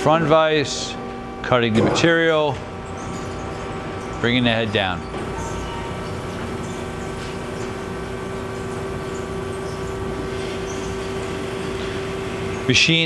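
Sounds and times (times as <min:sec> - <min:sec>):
band saw running: 0:00.0 - 0:13.0.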